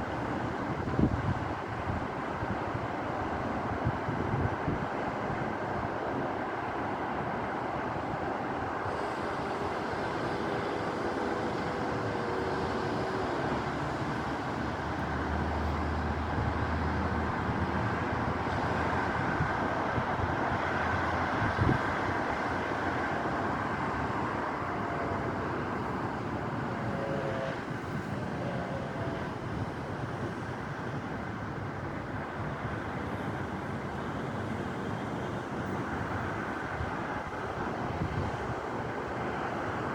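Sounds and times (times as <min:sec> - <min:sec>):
gusty wind buffeting microphone: 0:00.0 - 0:39.9.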